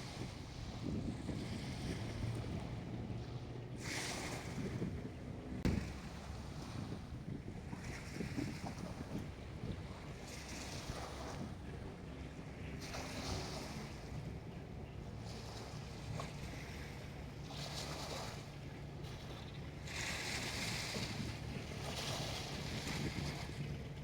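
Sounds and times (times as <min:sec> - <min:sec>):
small waves washing: 0:00.0 - 0:24.0
steady low hum: 0:00.0 - 0:24.0.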